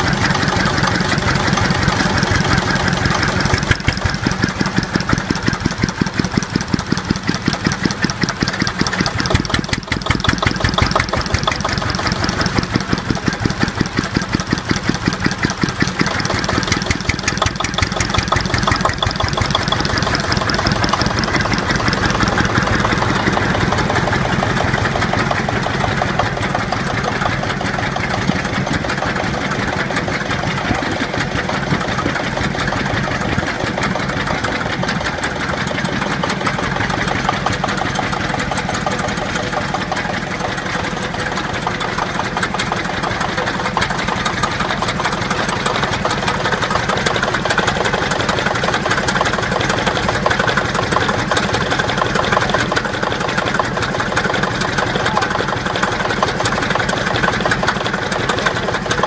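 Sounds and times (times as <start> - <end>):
diesel engine knocking steadily: 0.0 - 59.0.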